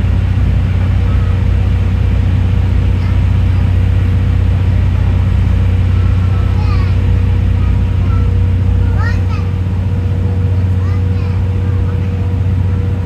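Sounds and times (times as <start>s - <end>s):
faint steady hum: 0.0s - 13.0s
low rumble of moving train: 0.0s - 13.0s.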